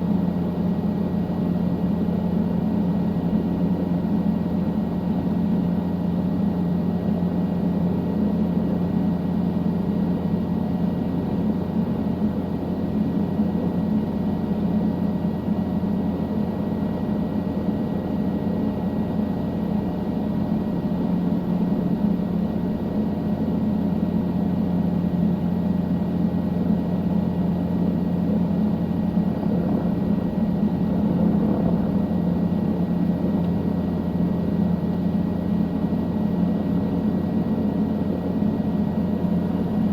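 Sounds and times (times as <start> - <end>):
helicopter drone from on board: 0.0 - 39.9.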